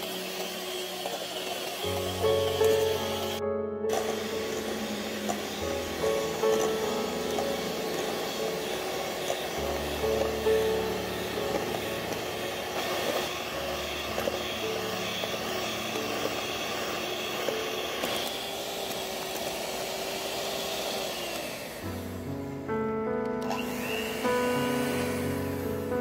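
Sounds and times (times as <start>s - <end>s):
electric mixer whipping cream: 0.0s - 22.3s, 23.2s - 26.0s.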